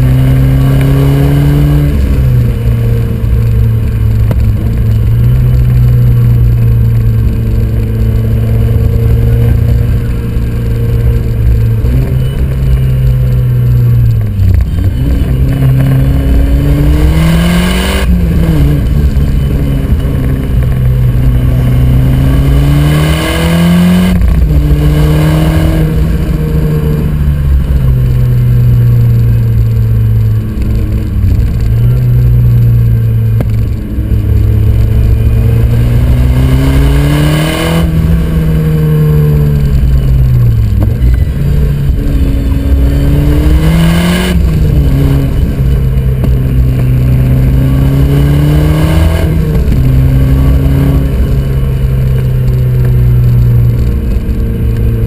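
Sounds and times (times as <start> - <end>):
car engine revving under load: 0.0 - 55.0
gear change rush: 0.0 - 55.0.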